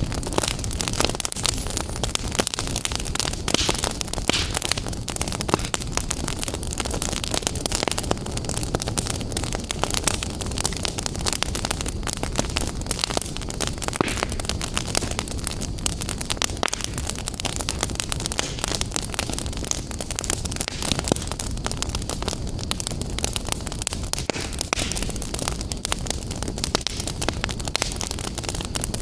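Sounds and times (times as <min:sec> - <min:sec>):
fire rushing hiss: 0:00.0 - 0:29.0
wood fire crackling: 0:00.0 - 0:29.0.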